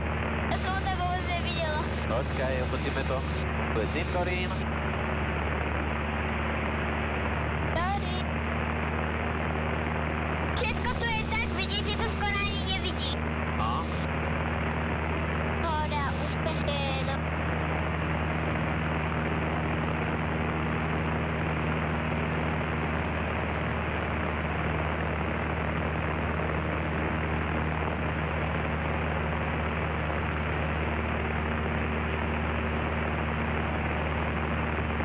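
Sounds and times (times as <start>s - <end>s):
propeller plane engine cabin drone: 0.0s - 35.0s.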